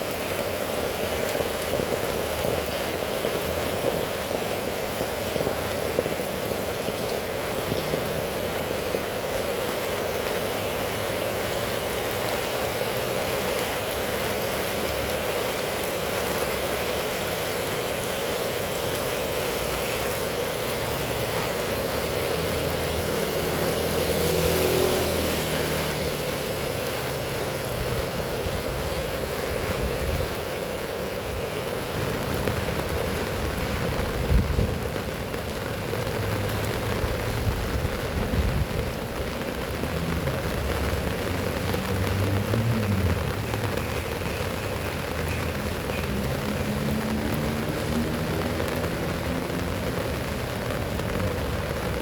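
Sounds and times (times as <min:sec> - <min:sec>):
heavy rain falling: 0:00.0 - 0:52.0
vehicles passing on wet road: 0:00.0 - 0:52.0.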